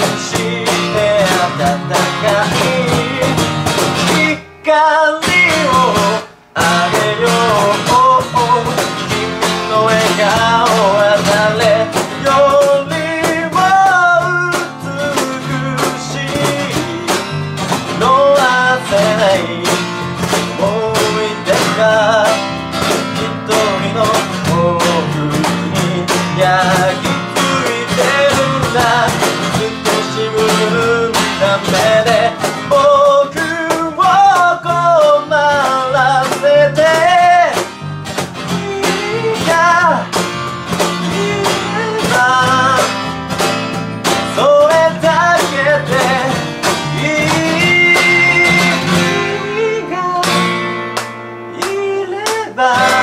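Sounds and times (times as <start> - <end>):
percussion beat: 0.0 - 4.4, 5.2 - 53.0
acoustic guitar strumming: 0.0 - 53.0
man singing: 0.0 - 53.0.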